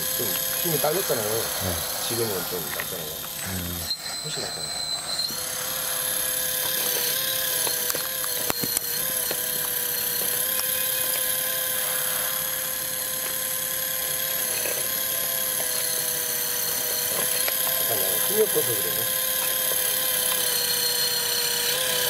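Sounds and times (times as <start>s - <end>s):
hydraulic pump whining: 0.0s - 22.0s.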